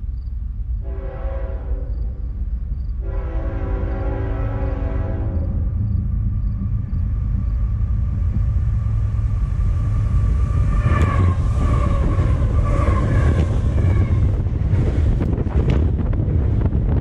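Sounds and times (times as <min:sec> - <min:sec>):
freight train deep rumble: 0:00.0 - 0:17.0.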